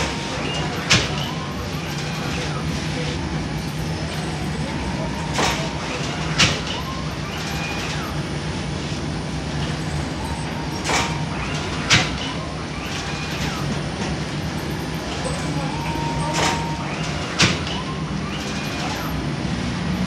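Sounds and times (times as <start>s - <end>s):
oven machinery humming: 0.0s - 20.0s.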